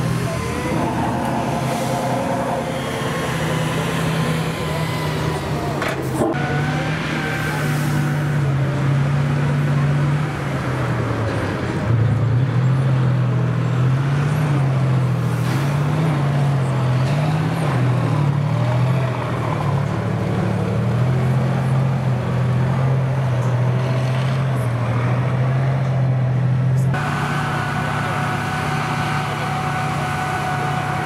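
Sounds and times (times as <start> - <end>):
tank diesel engine drone: 0.0 - 31.0.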